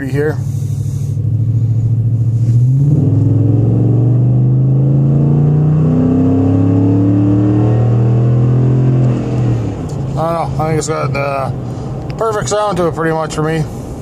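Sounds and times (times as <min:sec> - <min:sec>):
truck engine accelerating: 0:00.4 - 0:12.2.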